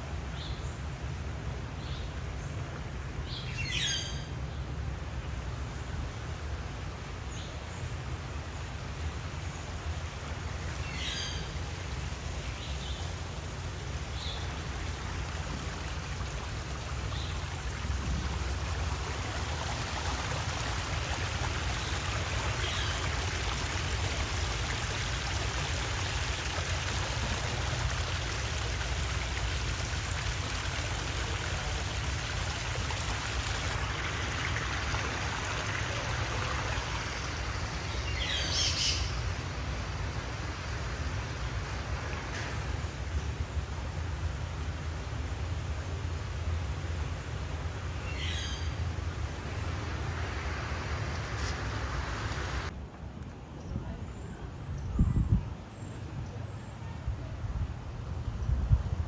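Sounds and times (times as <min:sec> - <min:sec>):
steady water noise: 0:00.0 - 0:53.1.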